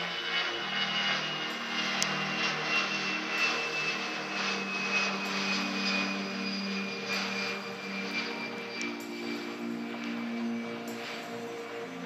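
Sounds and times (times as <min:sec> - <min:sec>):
jet engine rumble with whine: 0:00.0 - 0:12.0.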